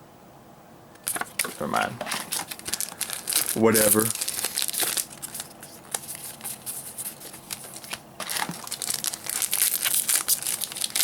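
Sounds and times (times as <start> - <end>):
wrappers crinkling and tearing: 1.0 - 11.0.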